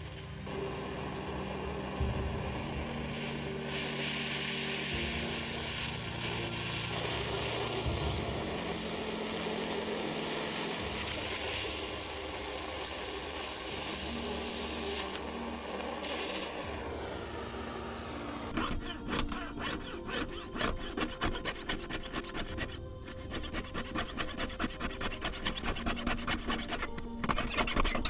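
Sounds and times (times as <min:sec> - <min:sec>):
gas torch flame hissing: 0:00.0 - 0:27.2.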